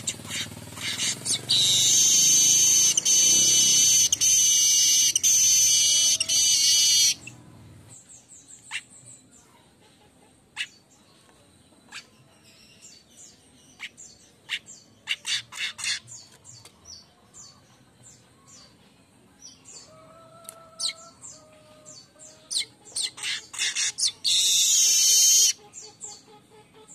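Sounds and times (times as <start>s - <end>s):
weaver bird buzzy song: 0.0s - 9.6s, 10.6s - 26.9s.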